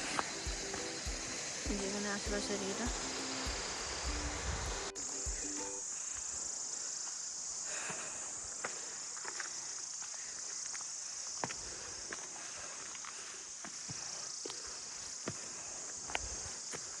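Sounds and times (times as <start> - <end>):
footsteps on trail: 0.0 - 17.0
high-pitched insect chorus: 0.0 - 17.0.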